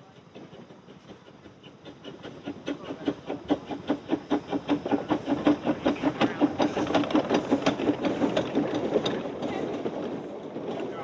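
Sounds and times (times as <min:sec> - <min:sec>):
steam locomotive passing: 0:00.0 - 0:11.0.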